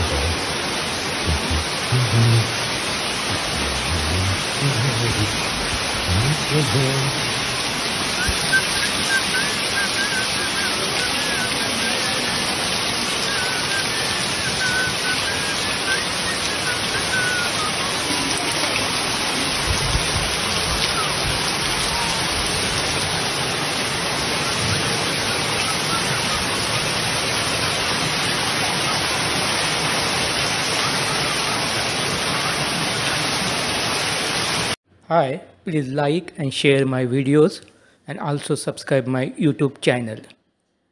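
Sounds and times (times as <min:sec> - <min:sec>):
heavy rain: 0:00.0 - 0:34.8
water running off roof: 0:00.0 - 0:34.8.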